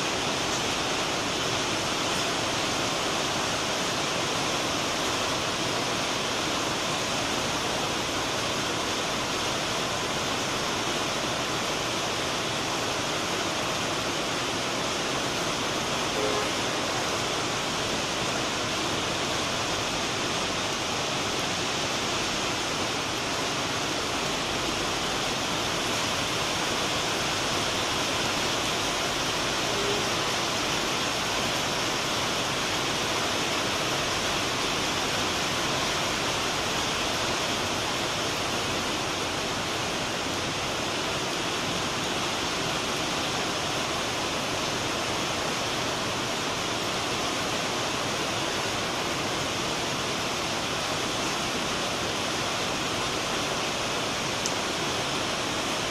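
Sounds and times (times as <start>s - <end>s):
rain falling steadily: 0.0s - 55.9s.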